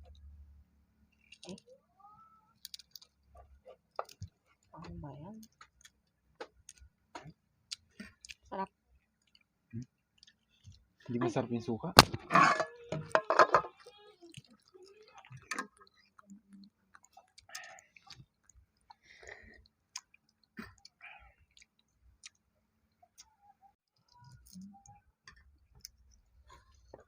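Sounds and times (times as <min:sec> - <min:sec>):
people chewing: 0:01.1 - 0:27.0.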